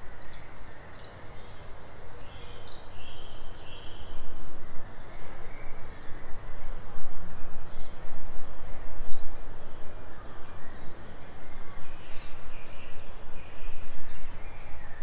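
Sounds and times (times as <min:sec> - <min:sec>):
forest birds chirping: 0:00.0 - 0:15.0.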